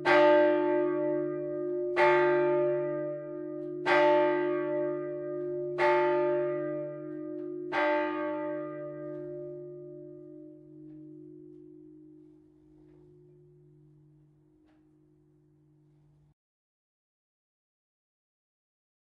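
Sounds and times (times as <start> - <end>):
church bell ringing: 0.0 - 16.2.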